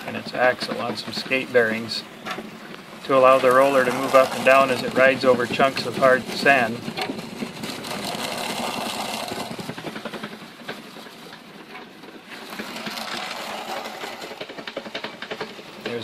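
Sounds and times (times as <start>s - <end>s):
sand muller mechanical clatter: 0.0s - 16.0s.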